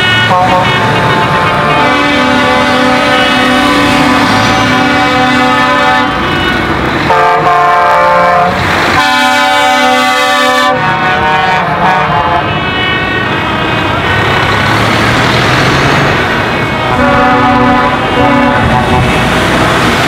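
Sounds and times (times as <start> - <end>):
truck air horn blasts: 0.0 - 14.4, 16.5 - 19.9
truck engines running: 0.0 - 20.0.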